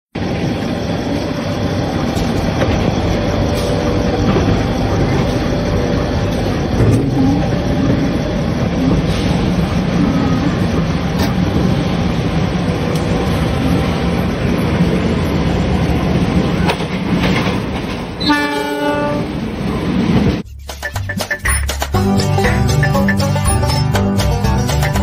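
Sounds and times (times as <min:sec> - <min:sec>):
trains rumbling on rails: 0:00.1 - 0:25.0.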